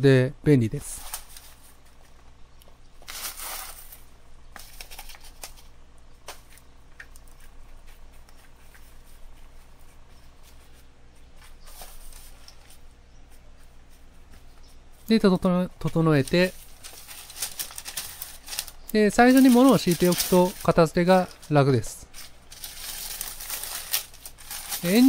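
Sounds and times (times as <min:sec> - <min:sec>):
newspaper rustling: 0:00.8 - 0:02.3, 0:02.9 - 0:25.0.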